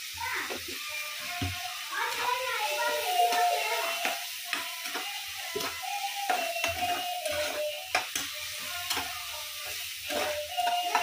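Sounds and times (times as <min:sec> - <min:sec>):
food sizzling: 0:00.0 - 0:11.0
steel spatula scraping a pan: 0:02.0 - 0:11.0.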